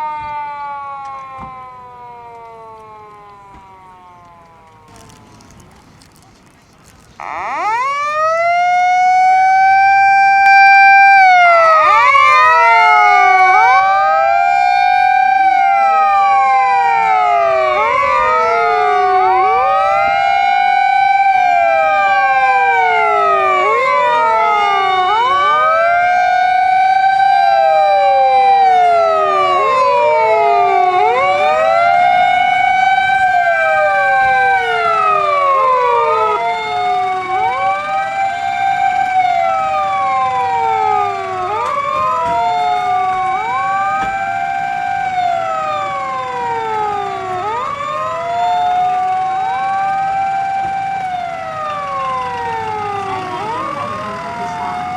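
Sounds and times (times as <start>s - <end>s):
fire engine sirens wailing: 0.0s - 54.9s.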